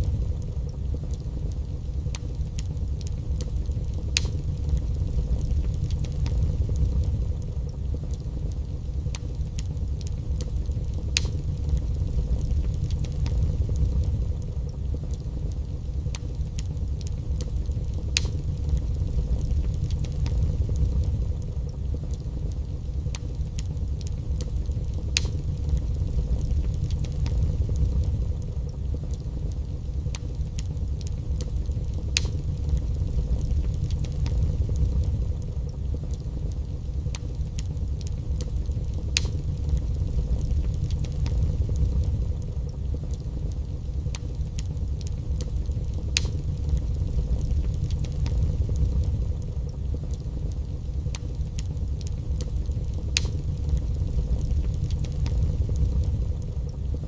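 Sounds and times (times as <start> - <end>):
fire crackles and pops: 0.0 - 57.0
fire roaring in fireplace: 0.0 - 57.0.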